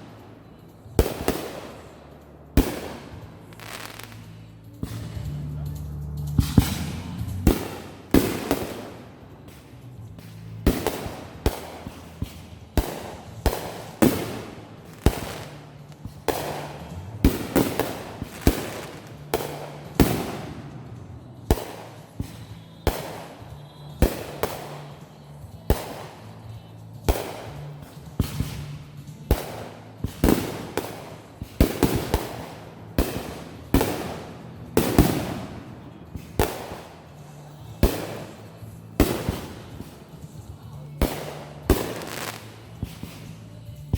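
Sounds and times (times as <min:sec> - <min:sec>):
fireworks bangs: 0:00.0 - 0:05.4, 0:06.3 - 0:25.0, 0:25.6 - 0:43.4.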